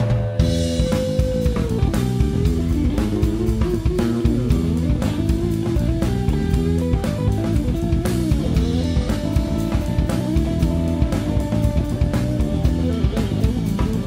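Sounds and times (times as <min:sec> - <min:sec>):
bass guitar: 0:00.0 - 0:14.0
drum kit: 0:00.0 - 0:14.0
electric guitar: 0:00.0 - 0:14.0
funk band playing: 0:00.0 - 0:14.0.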